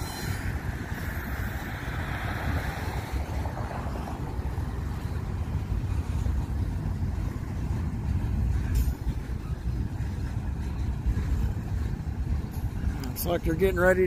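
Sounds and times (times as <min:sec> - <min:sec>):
freight train rumbling past: 0:00.0 - 0:14.0
wind buffeting microphone: 0:00.0 - 0:14.0.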